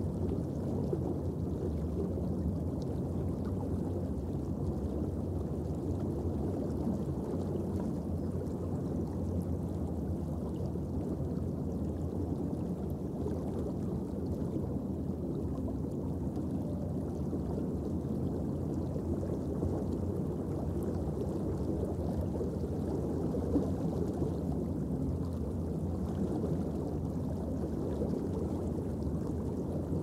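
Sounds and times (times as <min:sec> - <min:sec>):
underwater rumble and hiss: 0:00.0 - 0:30.0.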